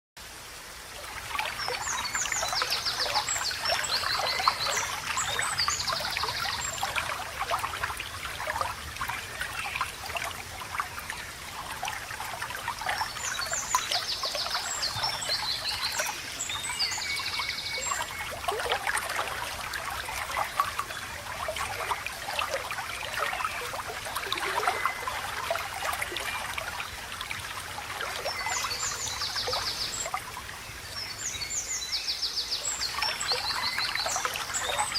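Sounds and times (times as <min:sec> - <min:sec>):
stream water trickling: 0:00.2 - 0:34.9.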